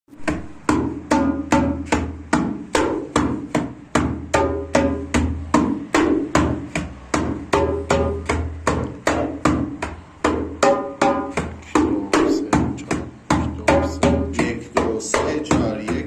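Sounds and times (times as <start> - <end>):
djembe played by hand: 0.2 - 16.0.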